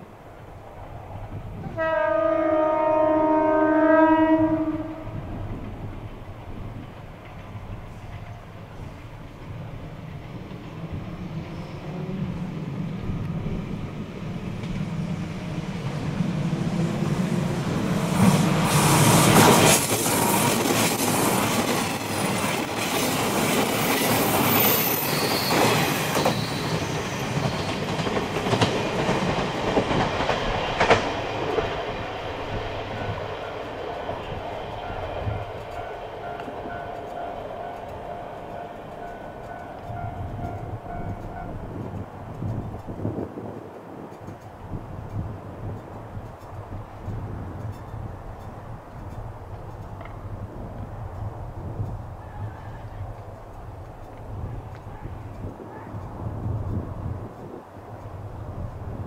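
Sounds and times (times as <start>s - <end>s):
passenger train passing: 0.0s - 59.0s
wheels clicking over rail joints: 5.3s - 59.0s.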